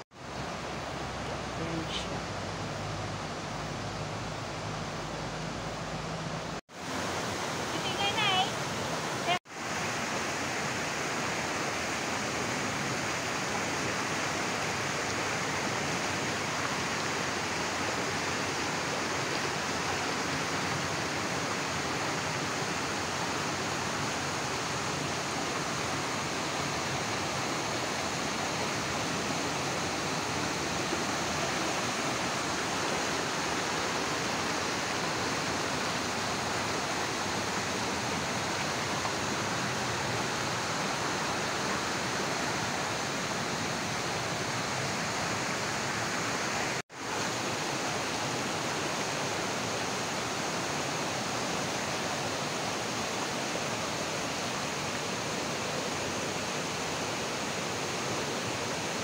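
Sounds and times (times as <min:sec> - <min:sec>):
mountain stream rushing over rocks: 0:00.0 - 0:59.0.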